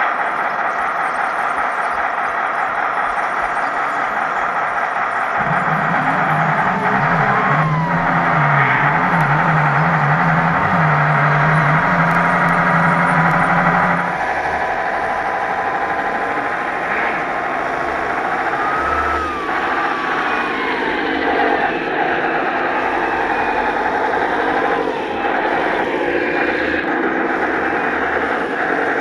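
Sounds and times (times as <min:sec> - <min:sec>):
simulated diesel engine running: 0:00.0 - 0:29.0
whine sliding in pitch: 0:05.2 - 0:29.0.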